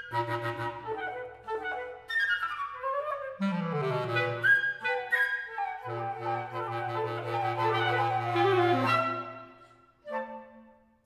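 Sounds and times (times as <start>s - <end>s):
flutes playing falling lines: 0.0s - 11.0s.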